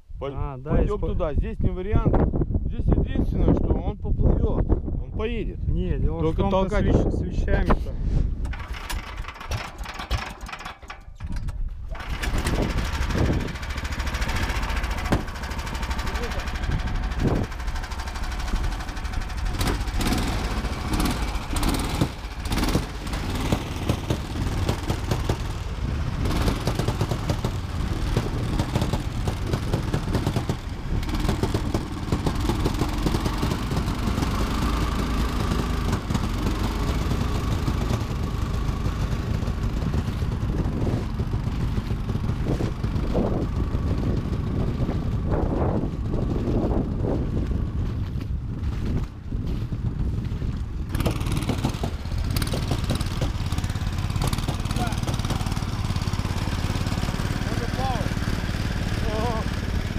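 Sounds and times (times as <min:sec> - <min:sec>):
tracked vehicle engine running: 0:06.2 - 0:59.9.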